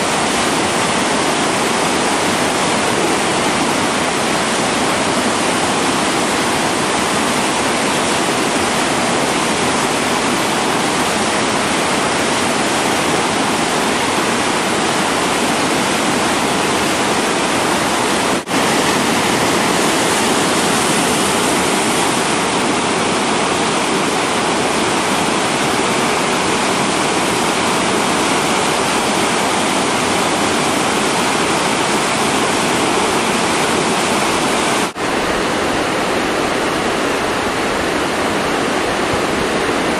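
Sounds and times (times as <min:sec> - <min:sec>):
water rushing over boulders: 0:00.0 - 0:39.9.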